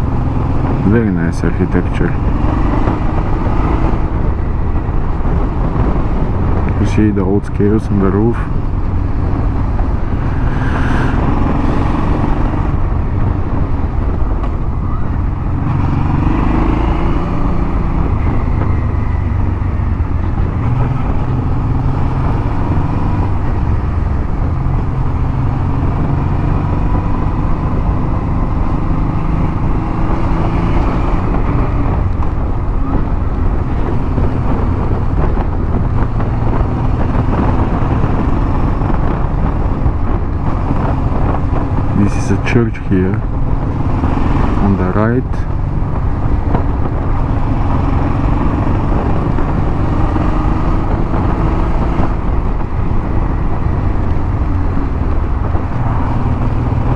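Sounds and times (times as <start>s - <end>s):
wind rush: 0.0s - 56.9s.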